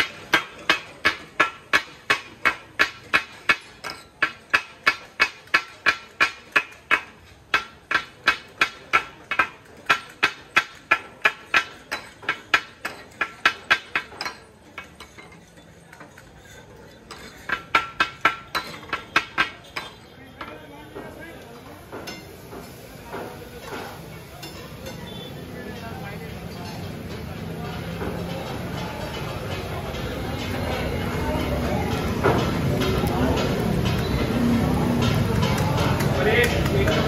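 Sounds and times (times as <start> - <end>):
metal spatulas clanging on griddle: 0.0 - 37.0.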